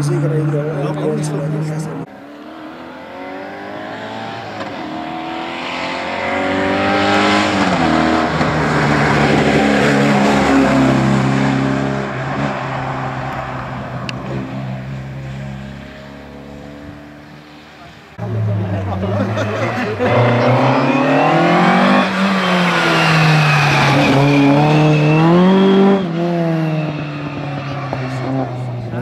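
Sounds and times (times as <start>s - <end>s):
rally car engine at full throttle: 0.0s - 29.0s.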